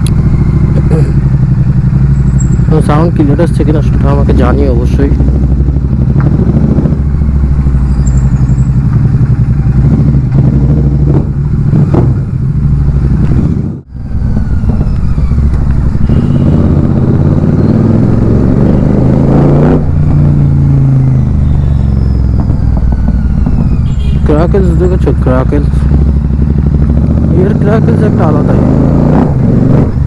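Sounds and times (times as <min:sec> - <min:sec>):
motorcycle engine running loud: 0:00.0 - 0:30.0
sharp exhaust crackles: 0:00.0 - 0:30.0.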